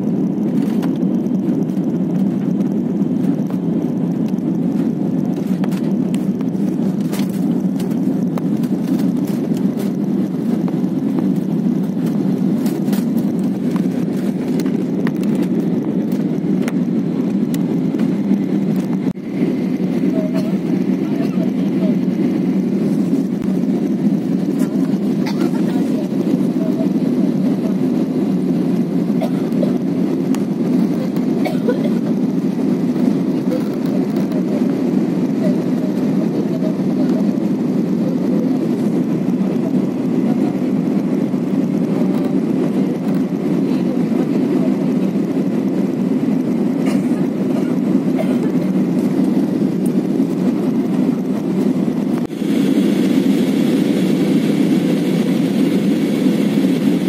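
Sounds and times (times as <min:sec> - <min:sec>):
jet airliner cabin drone: 0:00.0 - 0:57.0.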